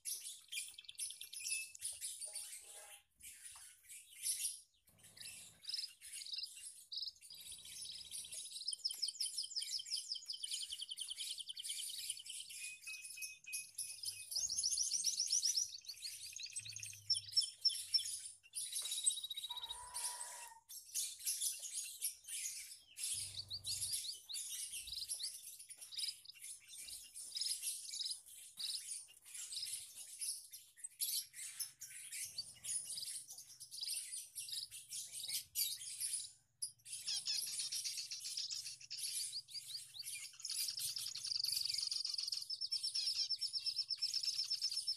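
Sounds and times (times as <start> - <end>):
finches chirping and twittering: 0.0 - 44.9.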